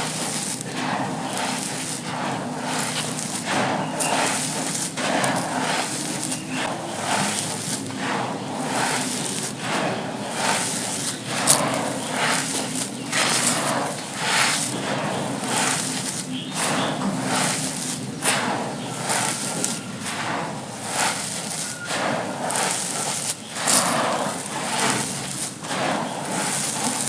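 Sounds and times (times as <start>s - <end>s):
sand being crushed: 0.0s - 27.0s.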